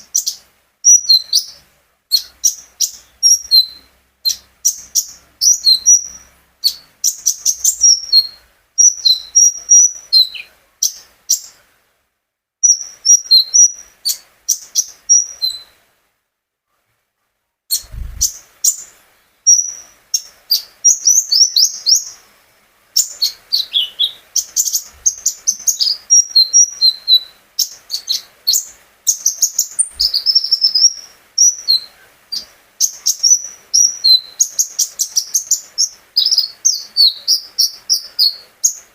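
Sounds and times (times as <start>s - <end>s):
songbird chirping and trilling: 0.0s - 11.6s, 12.6s - 15.8s, 17.7s - 22.3s, 23.0s - 38.9s.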